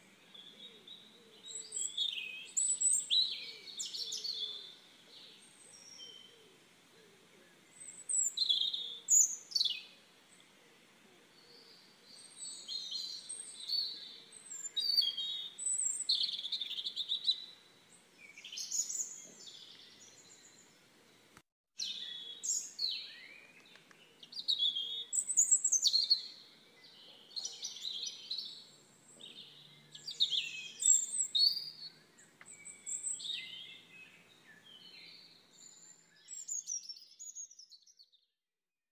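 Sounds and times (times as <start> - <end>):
songbirds chirping: 0.0 - 38.3.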